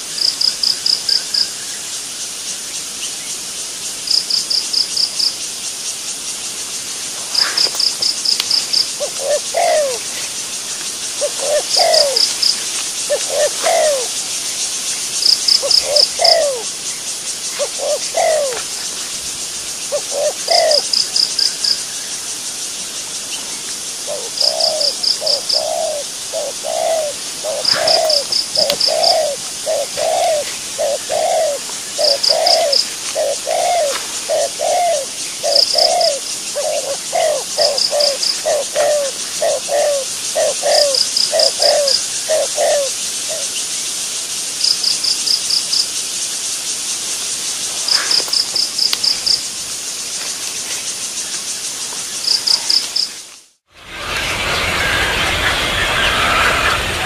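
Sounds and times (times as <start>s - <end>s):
high insect hiss: 0.0s - 53.6s.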